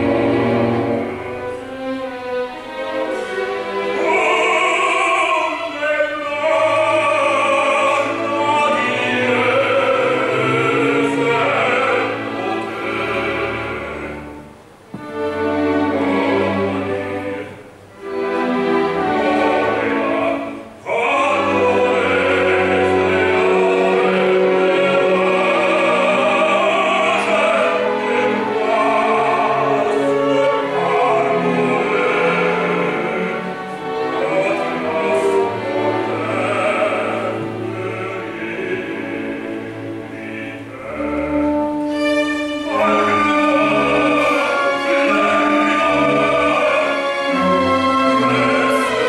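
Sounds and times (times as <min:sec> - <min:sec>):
orchestra playing: 0:00.0 - 0:49.0
operatic baritone singing: 0:02.9 - 0:14.3, 0:19.0 - 0:49.0.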